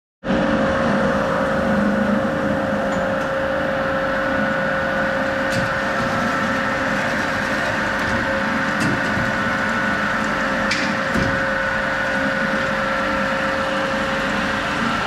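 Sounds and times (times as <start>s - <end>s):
band saw running: 0.8s - 15.0s.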